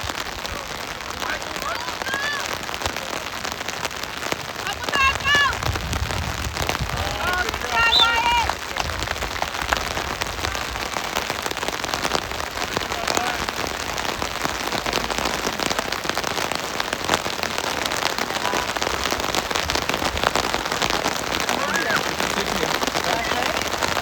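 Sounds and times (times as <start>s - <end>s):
heavy rain falling: 0.0s - 24.0s
sharp raindrop hits: 0.0s - 24.0s.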